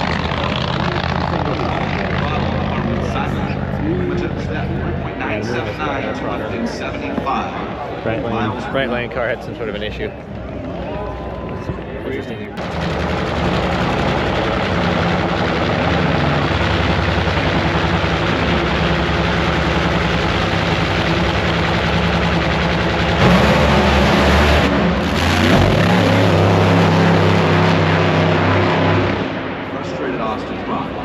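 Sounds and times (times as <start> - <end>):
loud drag racing engines: 0.0 - 31.0.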